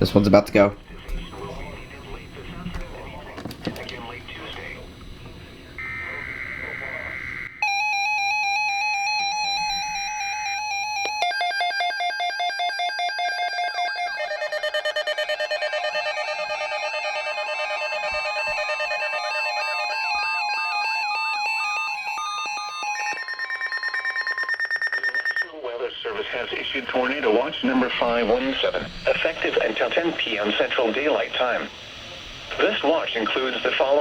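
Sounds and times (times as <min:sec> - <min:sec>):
steady alarm tone: 0:00.0 - 0:34.0
warbling alarm: 0:00.0 - 0:34.0
weather radio alarm beeping: 0:00.0 - 0:34.0.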